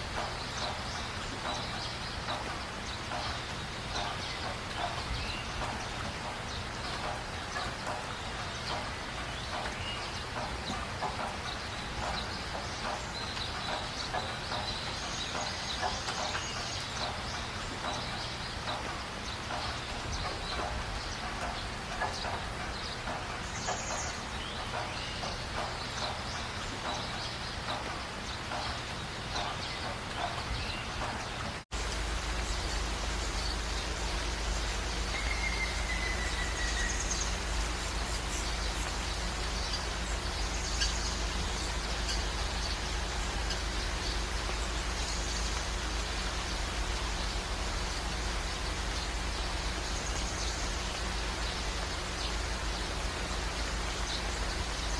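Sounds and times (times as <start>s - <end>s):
birds calling and chirping: 0.0s - 54.9s
rain falling: 0.0s - 54.9s.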